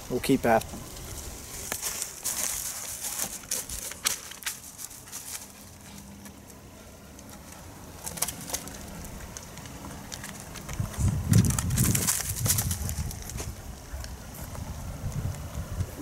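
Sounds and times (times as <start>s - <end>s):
footsteps in dry leaves: 0.4s - 15.0s.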